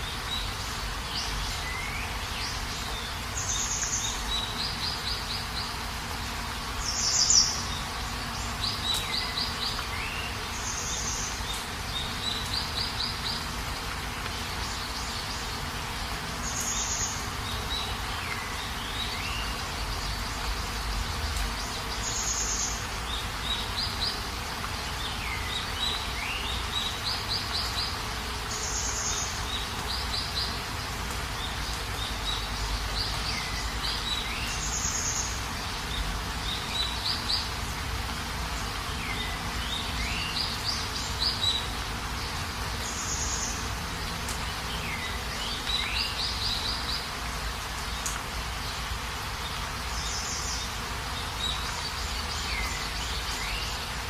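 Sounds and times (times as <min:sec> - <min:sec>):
birds chirping and trilling: 0:00.0 - 0:54.0
rain hiss: 0:00.0 - 0:54.0.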